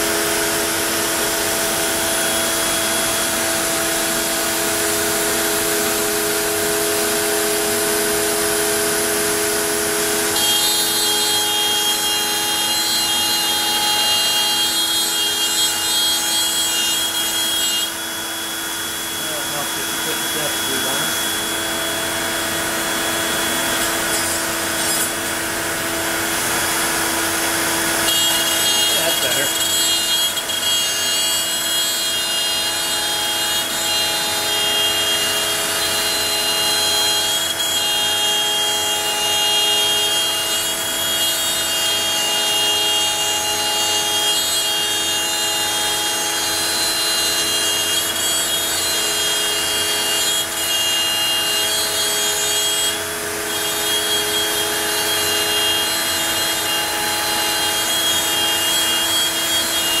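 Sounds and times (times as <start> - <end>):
router spindle whine: 0.0 - 60.0.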